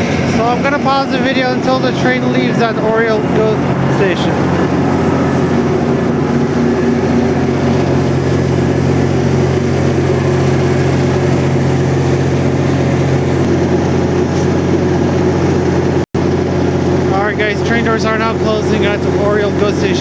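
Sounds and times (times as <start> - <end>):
diesel locomotive humming: 0.0 - 20.0.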